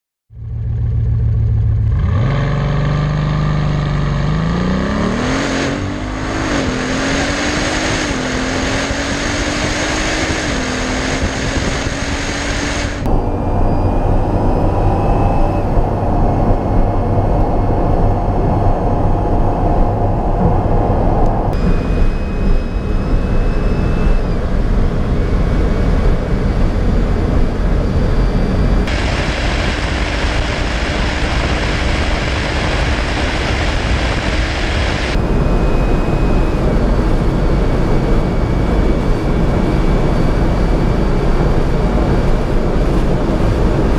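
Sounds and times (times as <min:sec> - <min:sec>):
car engine revving and accelerating: 0:01.3 - 0:43.9.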